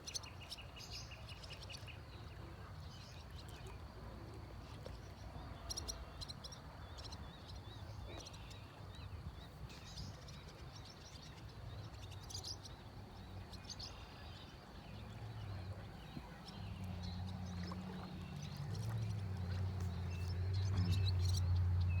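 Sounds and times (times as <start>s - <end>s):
birds chirping: 0.1s - 22.0s
low engine-like hum: 2.1s - 22.0s.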